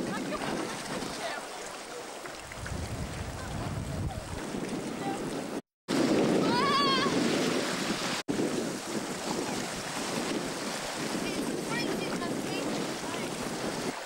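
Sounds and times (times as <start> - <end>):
wind buffeting microphone: 0.0 - 1.4, 2.3 - 14.0
surf breaking over rocks: 2.6 - 14.0.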